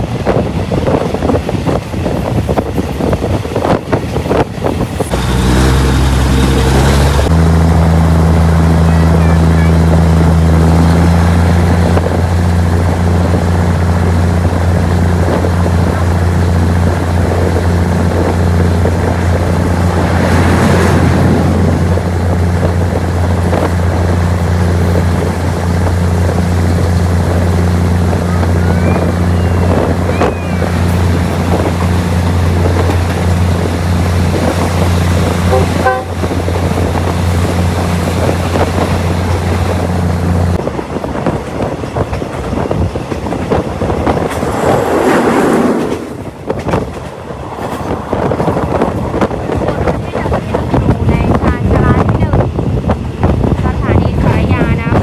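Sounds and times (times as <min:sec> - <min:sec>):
diesel train low drone: 0:00.0 - 0:55.0
passing train rushing by: 0:00.0 - 0:55.0.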